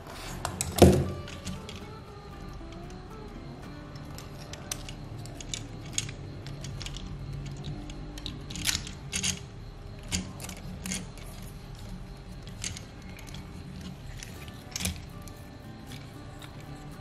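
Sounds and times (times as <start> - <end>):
plastic toy parts clicking: 0.2 - 3.0, 3.9 - 17.0.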